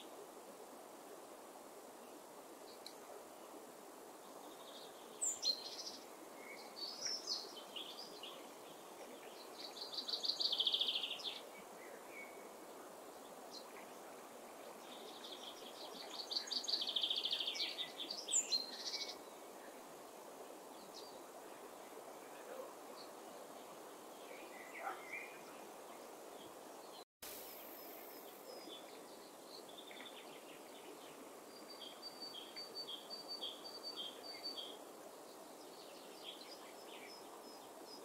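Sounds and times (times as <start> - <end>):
background hiss: 0.0 - 38.0.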